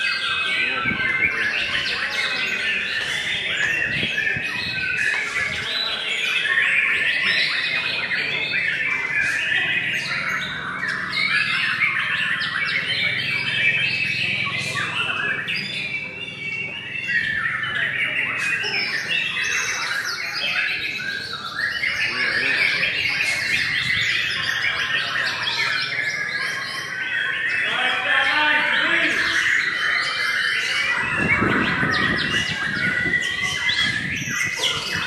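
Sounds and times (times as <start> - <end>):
other birds singing: 0.0 - 35.0.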